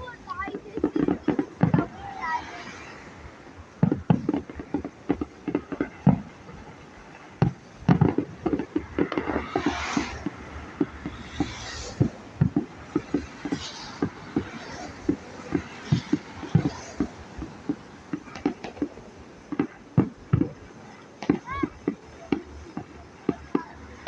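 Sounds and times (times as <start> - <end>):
fireworks popping and banging: 0.0 - 24.0
hissing crackling firework bursts: 0.0 - 24.0.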